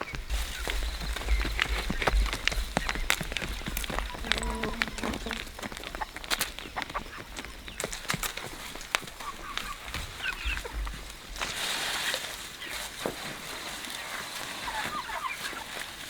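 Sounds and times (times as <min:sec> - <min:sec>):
chickens clucking: 0:00.0 - 0:12.9, 0:13.6 - 0:15.8.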